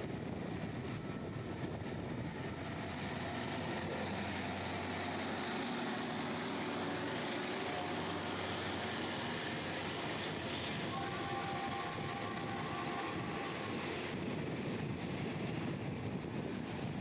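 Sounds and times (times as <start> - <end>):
diesel locomotive engine running: 0.0 - 17.0
train coaches rolling on rails: 0.0 - 17.0.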